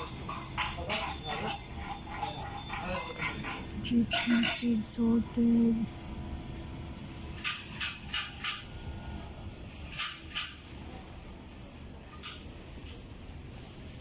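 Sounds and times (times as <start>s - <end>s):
shop background hum: 0.0s - 14.0s.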